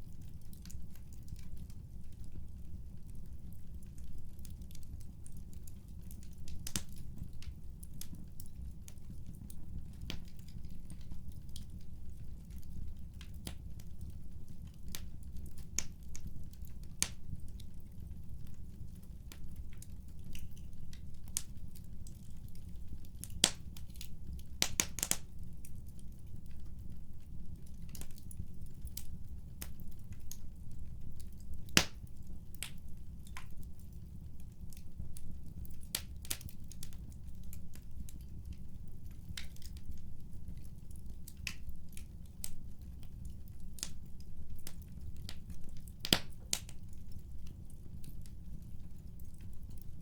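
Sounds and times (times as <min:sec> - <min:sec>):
fireplace crackling: 0:00.0 - 0:50.0.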